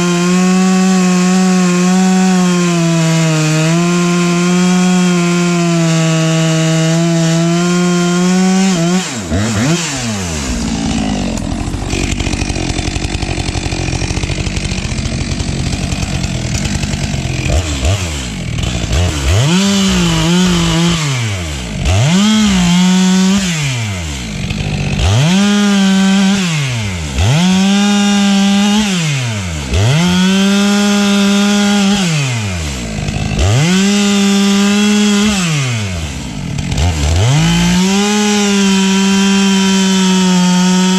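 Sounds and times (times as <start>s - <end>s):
chainsaw revving and idling: 0.0s - 40.9s.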